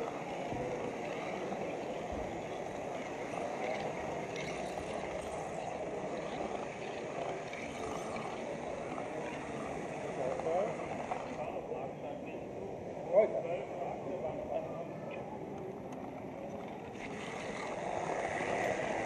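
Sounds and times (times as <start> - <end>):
murmur of many visitors: 0.0 - 19.0.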